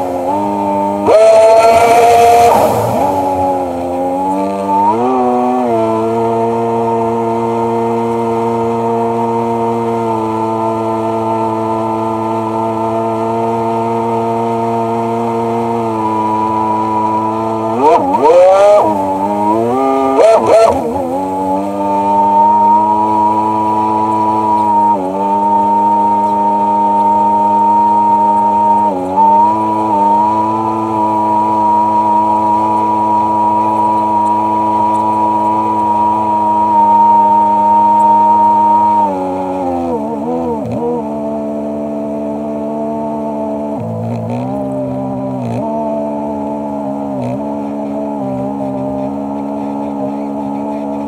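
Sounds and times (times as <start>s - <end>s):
watercraft engine revving: 0.0s - 51.0s.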